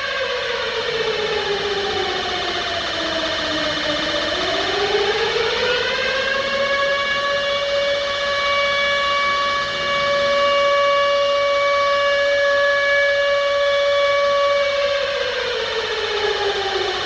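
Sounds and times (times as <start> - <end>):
siren wailing on steady pitch: 0.0 - 17.0.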